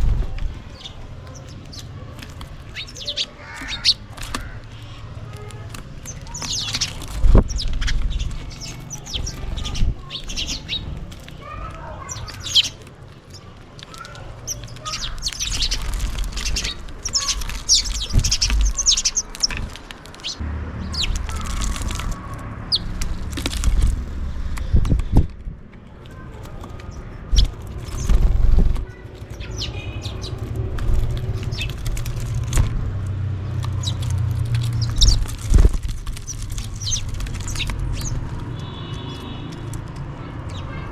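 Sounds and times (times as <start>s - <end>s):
wing flutters: 0.0s - 25.4s, 26.0s - 40.9s
sparrows chirping: 0.0s - 40.9s.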